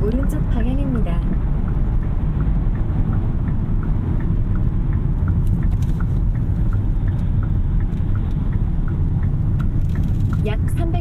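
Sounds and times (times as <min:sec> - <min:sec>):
road and tyre rumble: 0:00.0 - 0:11.0
turn signal ticking: 0:00.0 - 0:11.0.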